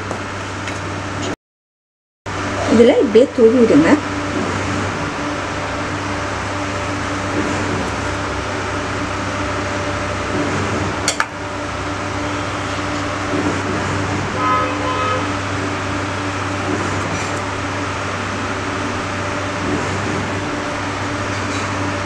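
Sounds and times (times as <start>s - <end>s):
mechanical hum and whir: 0.0s - 1.4s, 2.3s - 22.0s.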